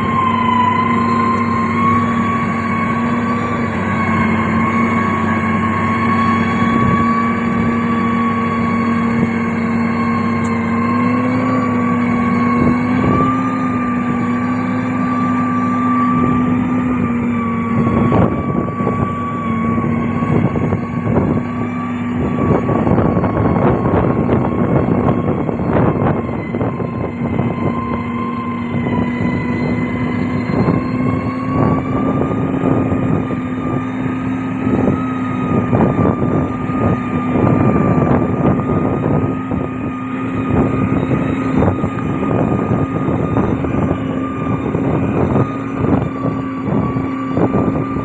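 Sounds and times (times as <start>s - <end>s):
diesel machinery engine running: 0.0s - 48.0s.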